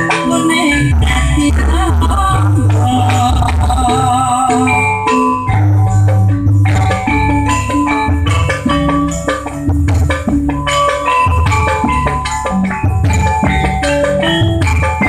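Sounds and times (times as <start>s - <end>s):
loud music over pa system: 0.0s - 15.0s.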